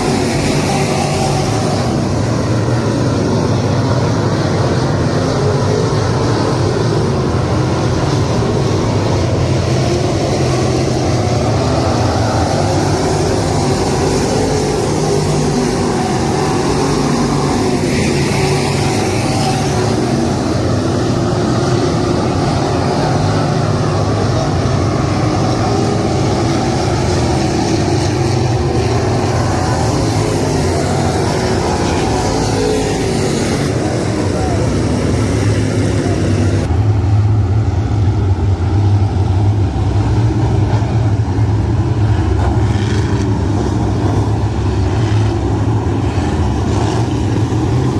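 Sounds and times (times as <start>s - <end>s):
motor vehicle drone: 0.0s - 47.9s.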